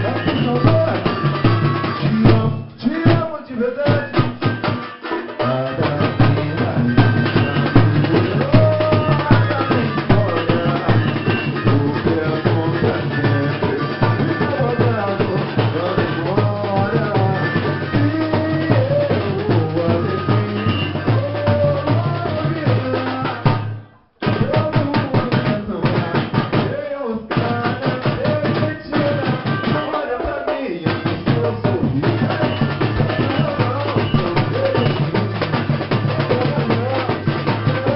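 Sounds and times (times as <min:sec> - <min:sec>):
samba percussion drumming: 0:00.0 - 0:37.9.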